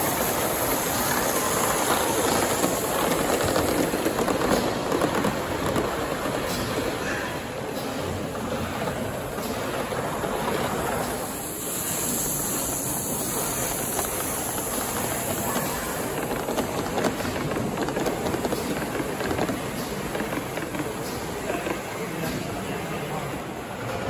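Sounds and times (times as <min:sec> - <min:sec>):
wheels clicking on track: 0:00.0 - 0:23.5
steam hiss: 0:00.0 - 0:23.7.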